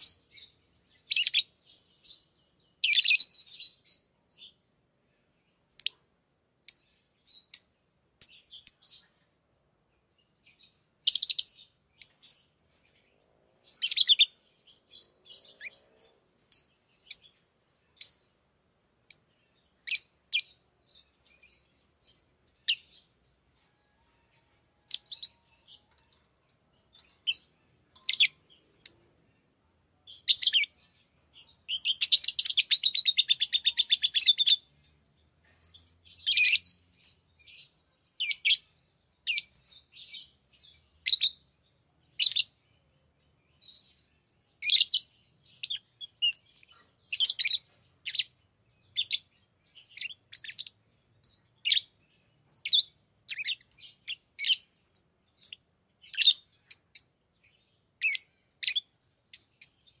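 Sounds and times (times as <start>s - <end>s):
lovebirds chirping: 0.0s - 60.0s.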